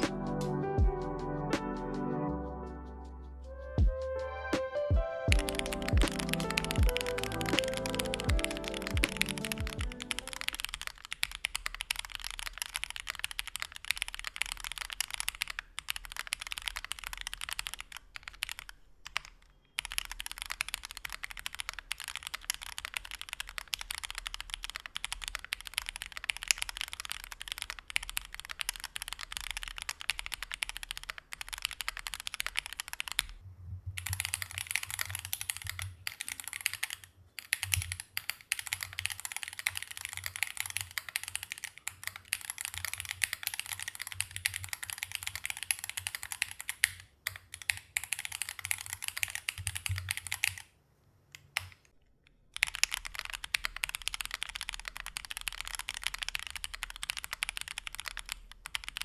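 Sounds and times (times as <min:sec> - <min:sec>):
mechanical keyboard typing: 0:00.0 - 0:00.4, 0:05.3 - 0:33.4, 0:34.0 - 0:50.7, 0:52.5 - 0:59.0.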